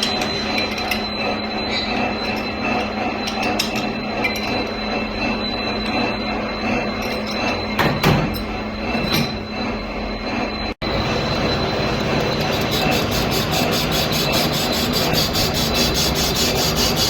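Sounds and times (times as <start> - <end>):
metal lathe humming and whining: 0.0 - 17.0.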